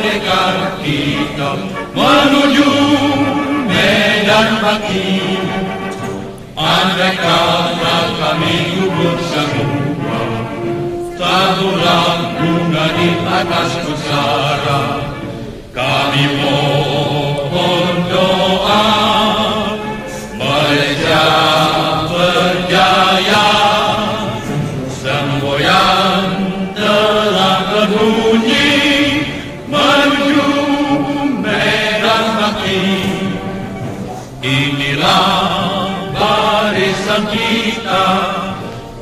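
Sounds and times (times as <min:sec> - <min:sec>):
group singing patriotic song: 0:00.0 - 0:39.0.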